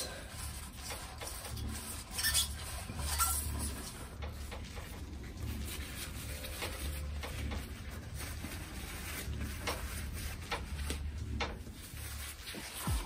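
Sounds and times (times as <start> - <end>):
rag wiping metal cylinder: 0.0 - 13.0.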